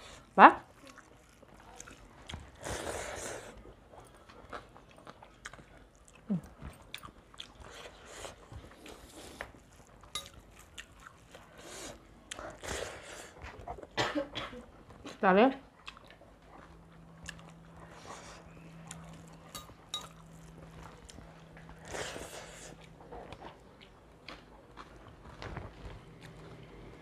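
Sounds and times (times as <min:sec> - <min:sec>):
people chewing food: 0:00.0 - 0:27.0.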